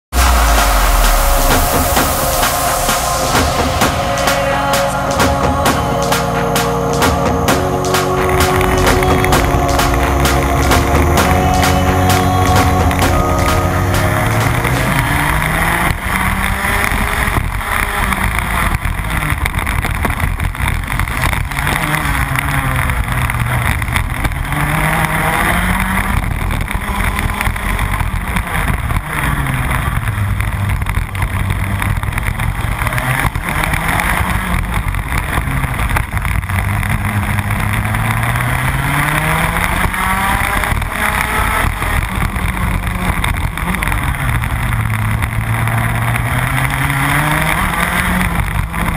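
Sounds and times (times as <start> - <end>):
kart engine revving: 0.0 - 48.9.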